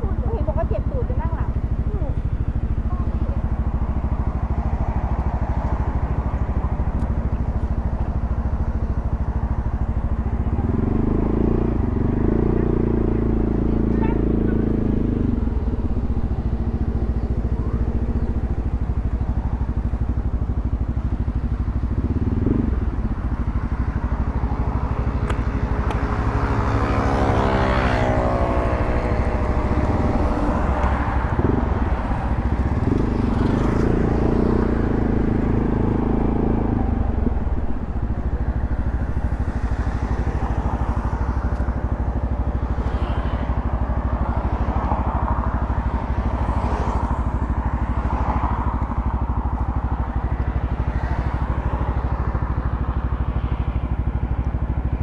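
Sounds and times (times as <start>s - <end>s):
scooter engine running: 0.0s - 55.0s.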